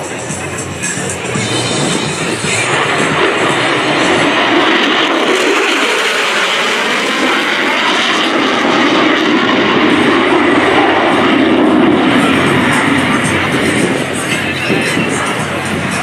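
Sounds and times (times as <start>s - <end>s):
jet flying past: 0.0s - 16.0s.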